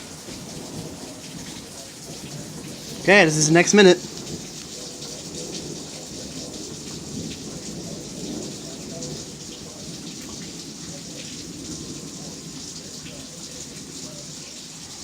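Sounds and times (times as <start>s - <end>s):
distant thunder rumble: 0.0s - 14.9s
steady rain falling: 0.0s - 15.0s.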